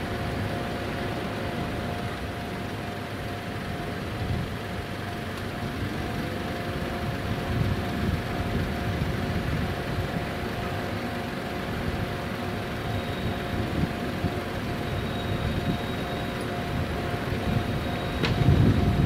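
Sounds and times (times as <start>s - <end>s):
train rolling low rumble: 0.0s - 19.0s.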